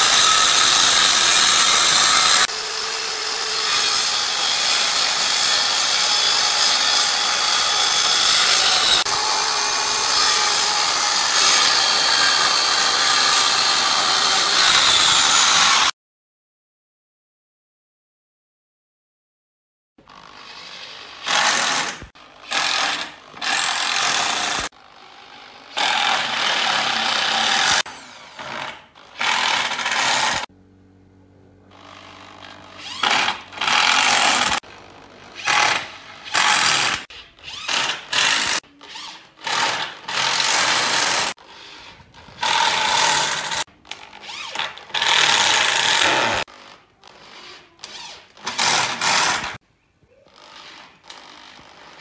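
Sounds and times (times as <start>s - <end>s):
electric drill driving screws: 0.0s - 15.9s, 20.1s - 24.7s, 25.7s - 30.5s, 31.7s - 49.6s, 50.4s - 52.0s.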